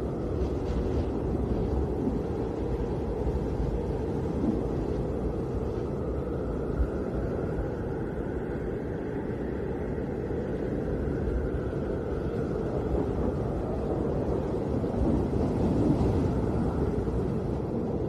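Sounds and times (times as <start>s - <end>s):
snowstorm wind blowing: 0.0s - 18.0s.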